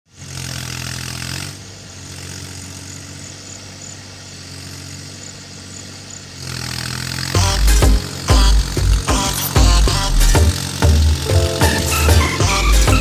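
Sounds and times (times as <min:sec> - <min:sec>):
diesel tractor engine running: 0:00.4 - 0:13.0.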